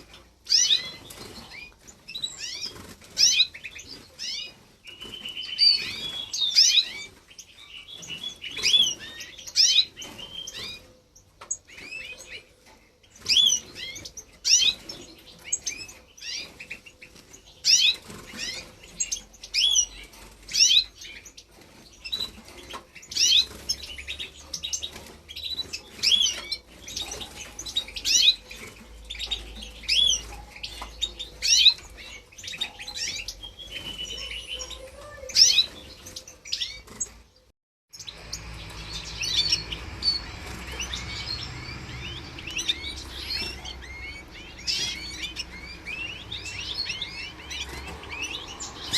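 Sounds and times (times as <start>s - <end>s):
birds chirping and twittering: 0.0s - 48.9s.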